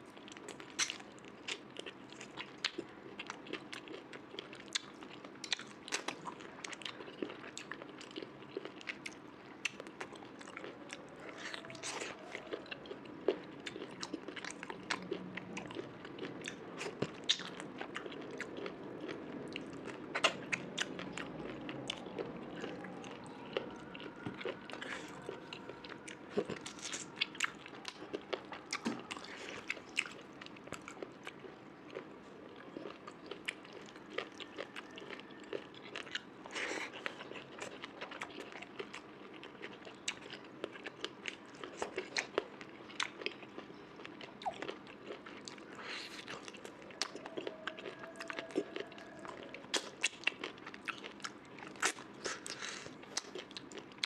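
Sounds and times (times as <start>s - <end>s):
person chewing crunchy food: 0.1s - 54.0s.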